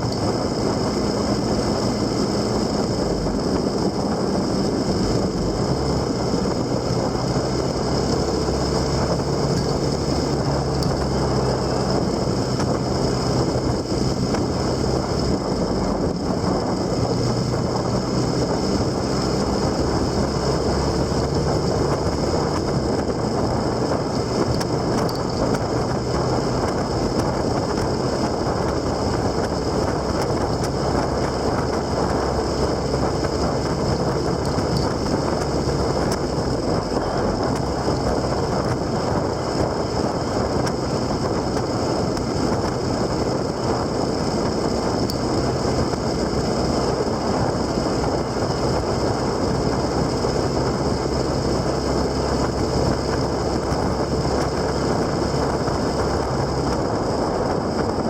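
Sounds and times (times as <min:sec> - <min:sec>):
vehicle engine hum: 0:00.0 - 0:58.0
wind rushing over microphone: 0:00.0 - 0:58.0.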